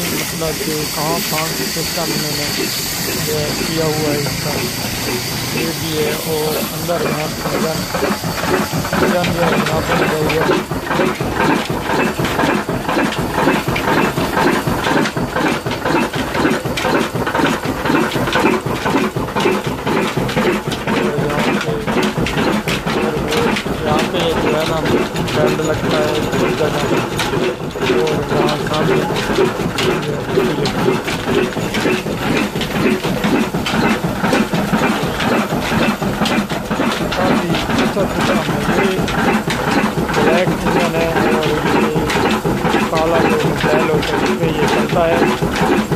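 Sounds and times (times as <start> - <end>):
stationary diesel engine chugging: 0.0 - 45.9.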